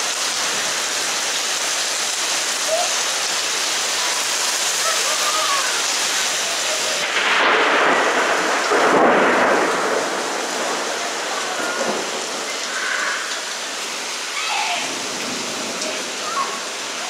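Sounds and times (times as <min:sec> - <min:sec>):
heavy rain pouring: 0:00.0 - 0:17.0
rain rushing swell: 0:00.0 - 0:17.0.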